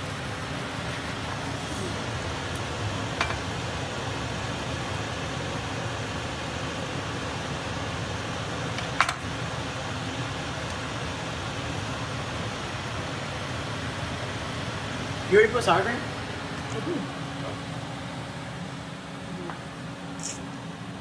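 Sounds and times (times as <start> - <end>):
low background hum and hiss: 0.0 - 21.0.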